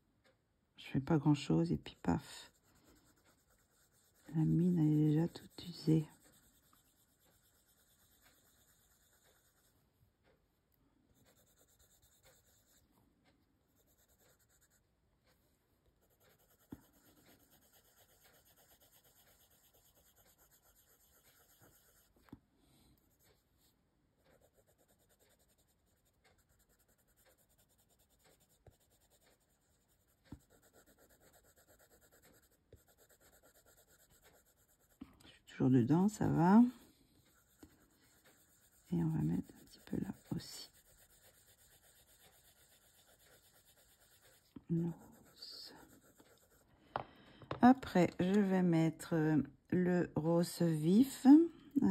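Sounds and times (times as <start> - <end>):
pencil scratching on paper: 1.2 - 9.8, 11.1 - 12.9, 13.7 - 22.4, 23.0 - 46.7.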